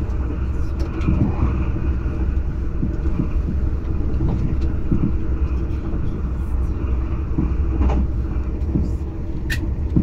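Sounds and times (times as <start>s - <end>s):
train cabin rumble: 0.0s - 10.0s.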